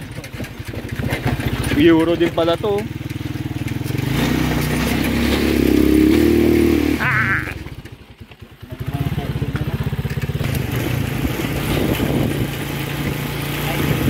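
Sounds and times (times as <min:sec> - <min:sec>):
motorcycle engine pulling: 0:00.0 - 0:14.0.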